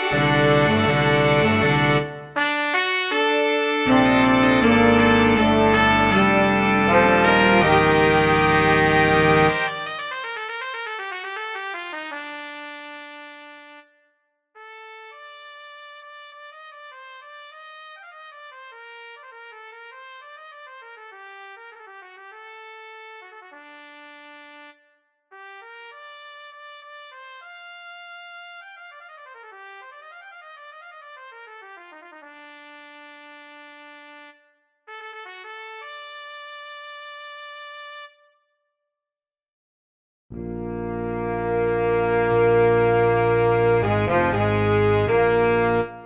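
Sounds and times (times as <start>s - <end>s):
trumpet solo: 0.0s - 14.0s, 14.6s - 38.4s, 40.4s - 46.0s.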